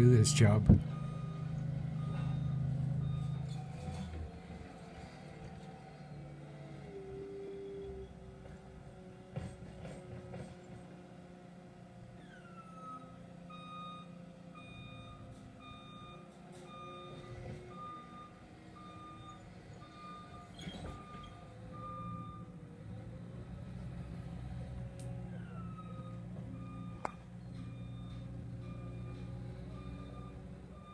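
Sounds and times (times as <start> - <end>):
diesel engine rumble: 0.0 - 13.5, 14.1 - 30.9.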